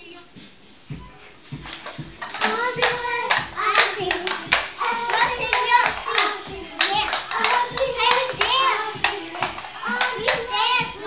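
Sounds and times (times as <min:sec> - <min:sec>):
hand claps: 0:01.8 - 0:10.8
girls singing and calling out: 0:02.0 - 0:11.0.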